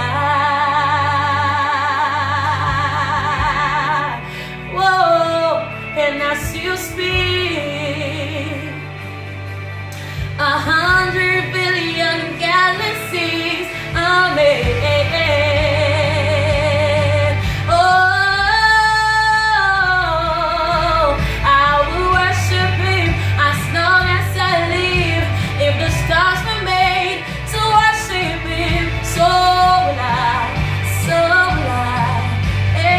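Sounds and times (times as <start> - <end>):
low instrumental backing: 0.0 - 32.9
woman singing worship song: 0.0 - 32.9.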